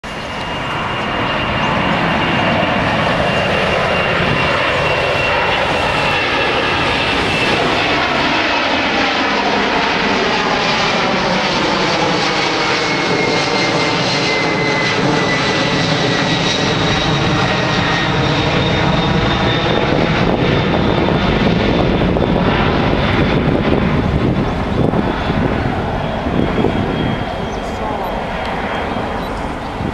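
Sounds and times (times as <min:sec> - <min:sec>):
airplane engine taking off: 0:00.0 - 0:29.9.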